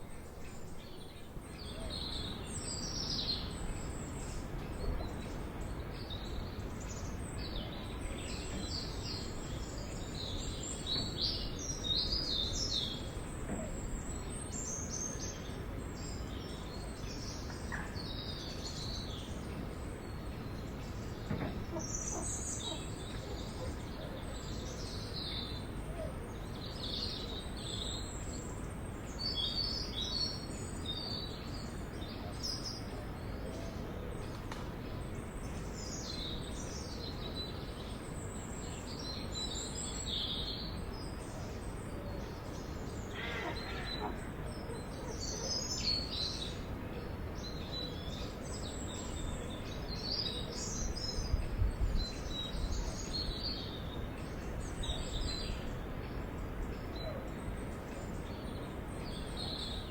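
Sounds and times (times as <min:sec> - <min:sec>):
forest background hiss and rumble: 0:00.0 - 0:59.9
songbirds chirping and trilling: 0:00.0 - 0:59.9.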